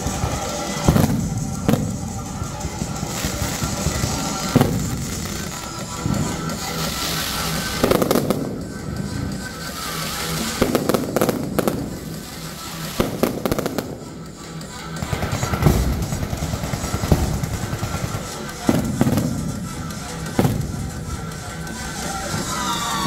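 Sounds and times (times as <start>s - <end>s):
fireworks crackling: 0.0s - 23.0s
fireworks cracks: 0.0s - 23.0s
music: 0.0s - 23.0s.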